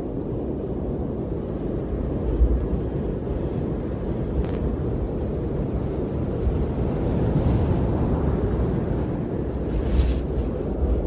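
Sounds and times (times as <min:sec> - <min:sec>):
strong wind on microphone: 0:00.0 - 0:11.0.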